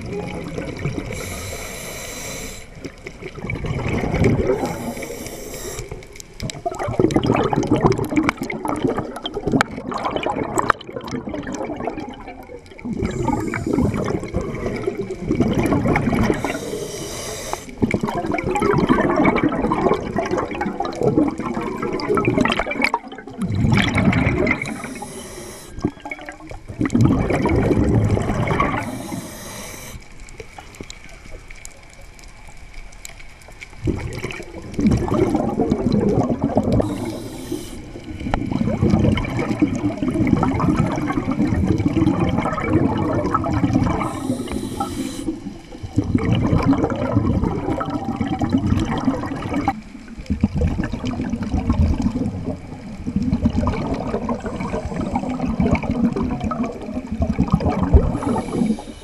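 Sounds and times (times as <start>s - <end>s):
exhaust bubbles gurgling: 0.0s - 32.3s, 33.4s - 59.0s.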